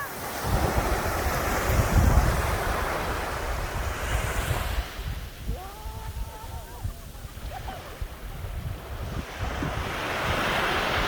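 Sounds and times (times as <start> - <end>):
ocean wave breaking: 0.0 - 11.0
wind rumbling on microphone: 0.0 - 11.0.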